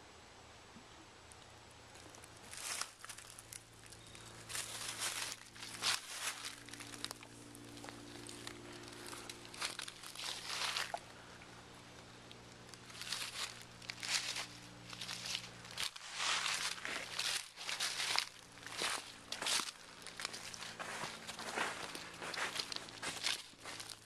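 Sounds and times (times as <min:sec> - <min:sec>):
footsteps crunching dry leaves: 0:02.0 - 0:24.0.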